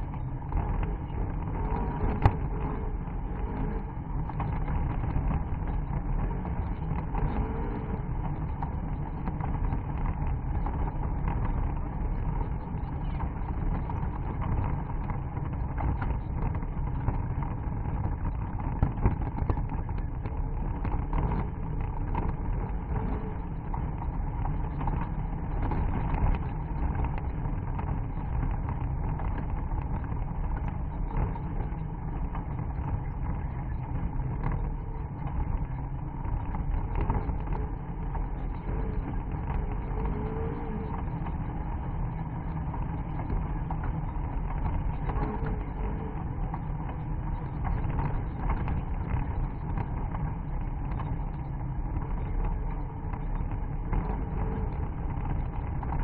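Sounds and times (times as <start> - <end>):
off-road car engine running: 0.0 - 56.0.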